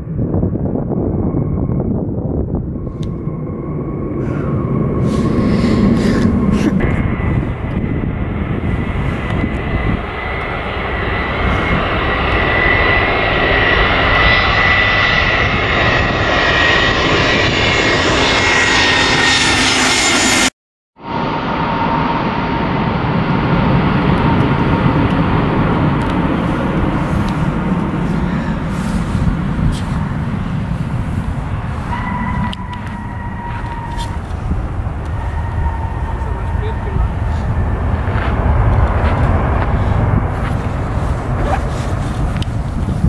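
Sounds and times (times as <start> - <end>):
jet aircraft flying overhead: 0.0 - 43.0
jet engines running on runway: 0.0 - 43.0.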